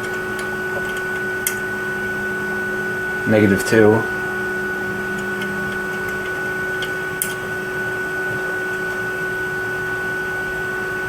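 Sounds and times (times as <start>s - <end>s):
constant high whine: 0.0s - 11.0s
hum and hiss: 0.0s - 11.0s.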